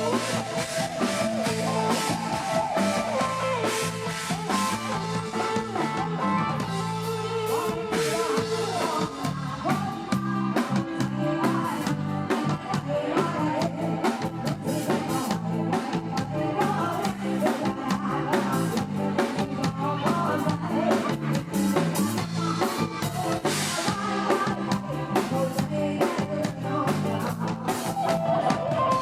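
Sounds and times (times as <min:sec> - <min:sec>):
drum kit: 0:00.0 - 0:29.0
electric guitar: 0:00.0 - 0:29.0.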